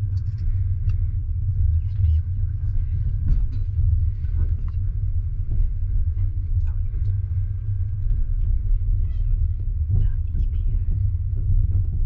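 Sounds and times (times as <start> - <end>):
faint knocks and rattles: 0.0 - 12.0
train rumbling on rails: 0.0 - 12.0.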